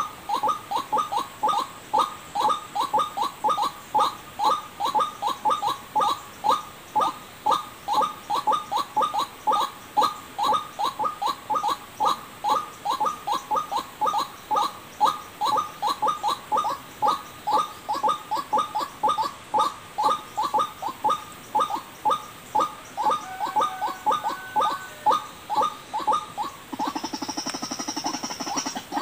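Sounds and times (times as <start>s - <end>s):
waterhen calls: 0.0s - 29.0s.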